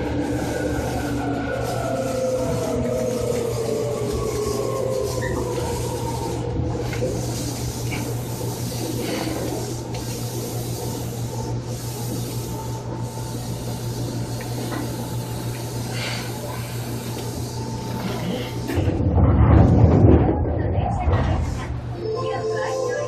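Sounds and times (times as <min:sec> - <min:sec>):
train motor whine: 0:00.0 - 0:18.9
constant low hum: 0:00.0 - 0:22.7
train carriage rumble: 0:00.0 - 0:23.0.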